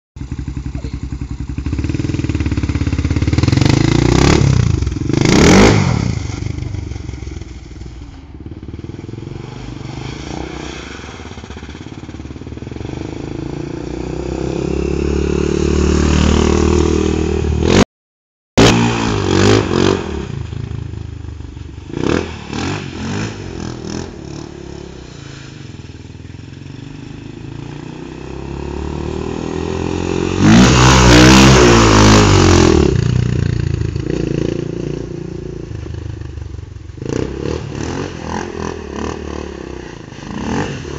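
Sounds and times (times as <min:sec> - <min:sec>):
quad engine revving: 0:00.2 - 0:07.6, 0:08.6 - 0:17.8, 0:18.6 - 0:21.1, 0:21.9 - 0:25.6, 0:26.5 - 0:36.0, 0:37.0 - 0:40.9.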